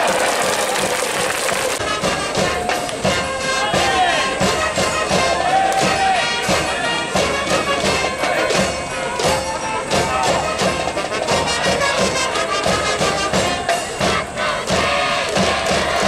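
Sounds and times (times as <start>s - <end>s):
brass band playing: 0.0s - 16.0s
drums keeping steady beat: 0.0s - 16.0s.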